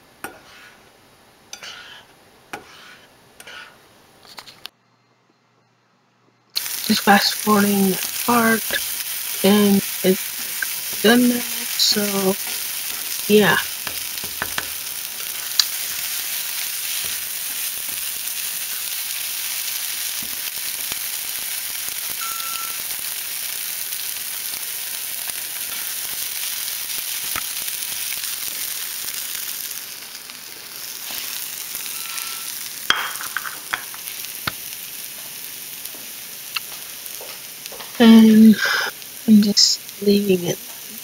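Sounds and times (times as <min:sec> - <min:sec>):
eggs sizzling in frying pan: 0:00.0 - 0:04.7, 0:06.5 - 0:41.0.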